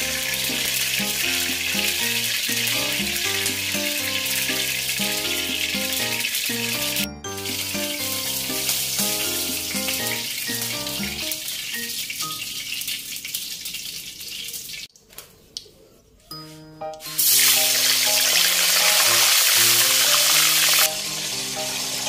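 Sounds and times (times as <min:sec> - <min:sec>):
background music: 0:00.0 - 0:12.6, 0:16.3 - 0:22.0
oil sizzling in a wok: 0:00.0 - 0:14.9, 0:17.0 - 0:22.0.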